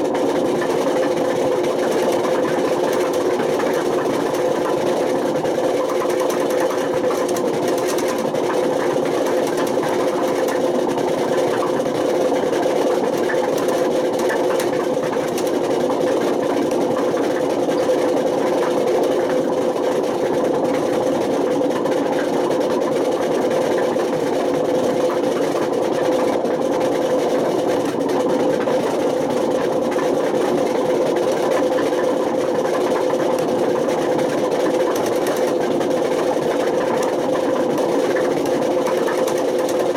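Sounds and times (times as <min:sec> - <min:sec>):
washing machine mechanical drone: 0:00.0 - 0:39.9.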